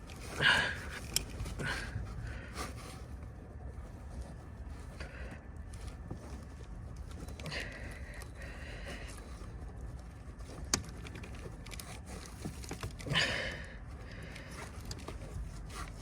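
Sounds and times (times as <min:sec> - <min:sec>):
hands scraping and clicking: 0:00.0 - 0:16.0
low background rumble: 0:00.0 - 0:16.0.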